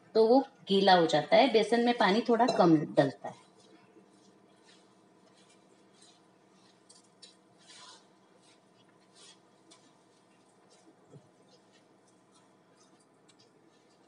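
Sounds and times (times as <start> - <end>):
hand kneading dough in metal bowl: 1.6 - 14.0.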